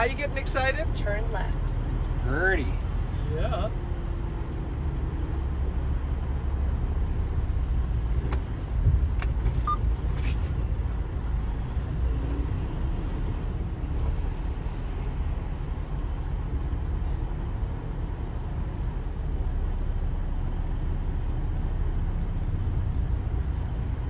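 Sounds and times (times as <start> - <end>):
diesel engine low rumble: 0.0 - 24.0.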